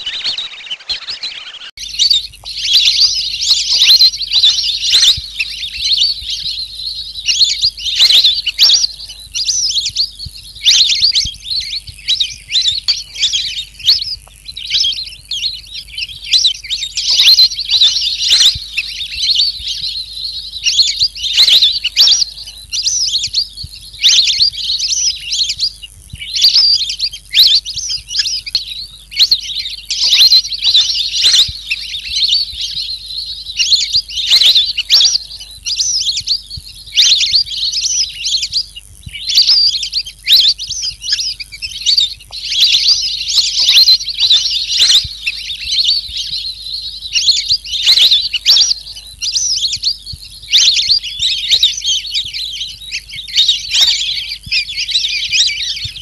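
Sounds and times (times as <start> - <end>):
rapid high bird chirping: 0.0 - 56.0.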